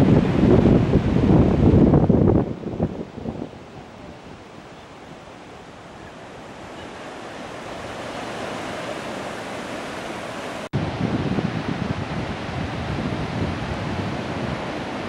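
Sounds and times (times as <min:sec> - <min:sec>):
waves washing up a beach: 0:00.0 - 0:15.0
wind rumble on microphone: 0:00.0 - 0:15.0.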